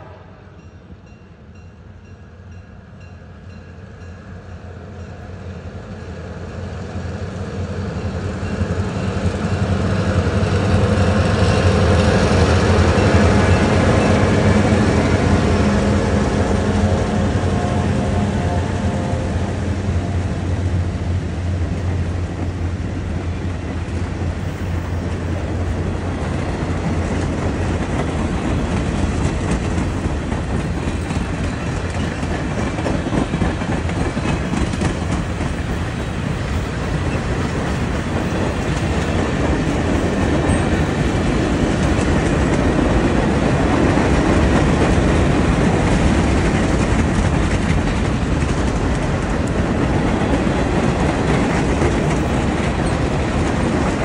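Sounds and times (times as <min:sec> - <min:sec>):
locomotive low drone: 0:04.0 - 0:54.0
train wheels clicking on rails: 0:06.9 - 0:54.0.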